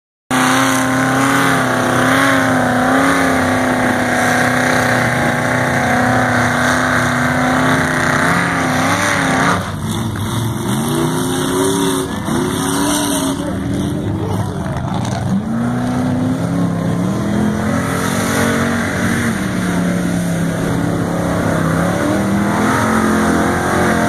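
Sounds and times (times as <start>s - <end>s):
truck engine revving: 0.3s - 24.0s.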